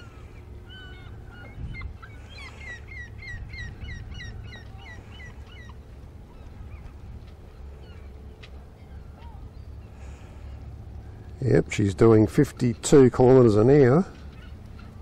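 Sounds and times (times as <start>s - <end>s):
birds chirping: 0.0s - 15.0s
low steady rumble: 0.0s - 15.0s.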